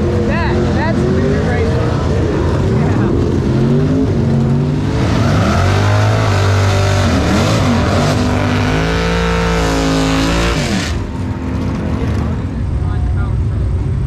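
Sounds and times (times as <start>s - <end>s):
drag car engines revving: 0.0s - 14.0s.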